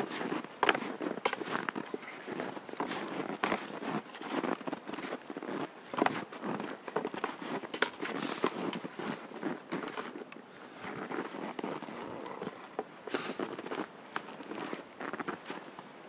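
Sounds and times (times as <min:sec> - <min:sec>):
footsteps crunching in snow: 0:00.0 - 0:15.9.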